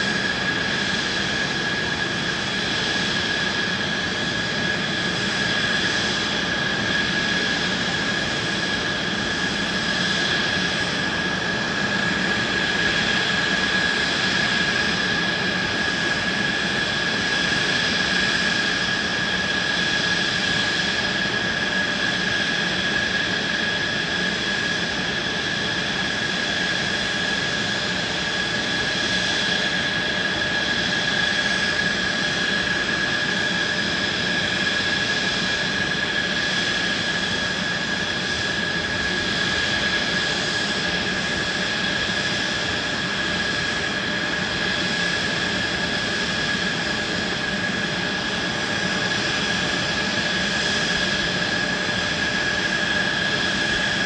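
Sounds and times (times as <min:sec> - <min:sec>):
jet engine whine and rush: 0:00.0 - 0:54.0.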